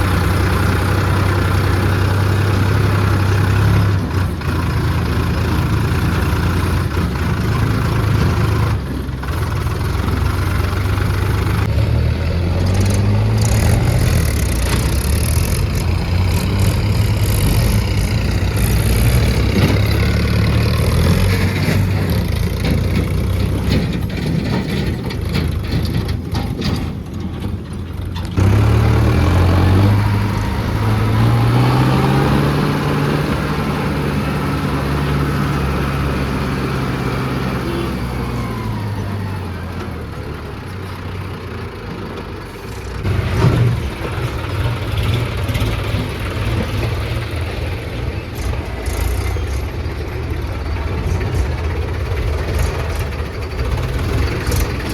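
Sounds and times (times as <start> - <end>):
engine revving: 0.0 - 26.1, 28.3 - 41.8, 42.5 - 54.9
tractor diesel engines running: 0.0 - 54.9.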